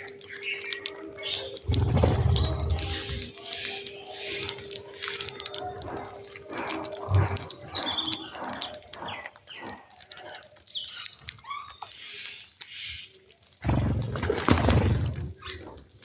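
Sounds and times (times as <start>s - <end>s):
sparrows chirping: 0.0s - 15.7s
birds pecking on concrete: 0.0s - 16.0s.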